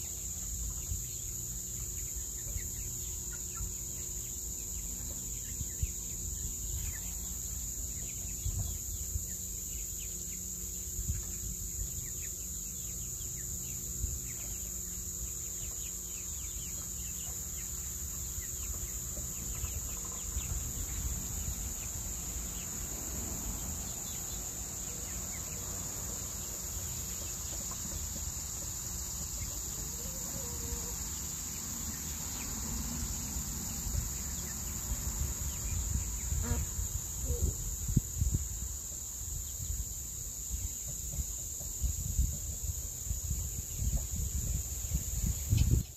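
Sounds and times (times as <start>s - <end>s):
chicks peeping: 0.0s - 45.9s
insects droning: 0.0s - 45.9s.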